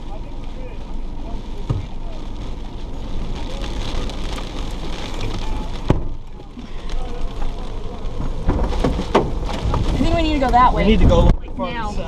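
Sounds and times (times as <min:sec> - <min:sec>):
rain hitting a car: 0:00.0 - 0:12.0
vehicle rumble: 0:00.0 - 0:12.0.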